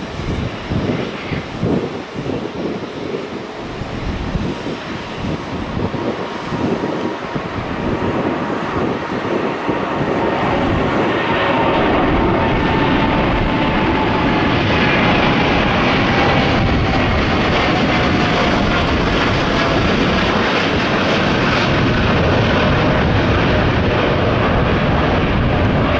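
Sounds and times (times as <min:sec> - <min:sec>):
jet engines rumbling: 0:00.0 - 0:25.9.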